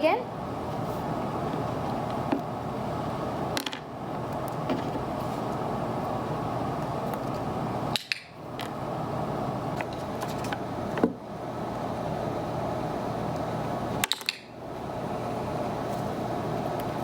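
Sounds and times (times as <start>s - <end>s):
fan running: 0.0s - 17.0s.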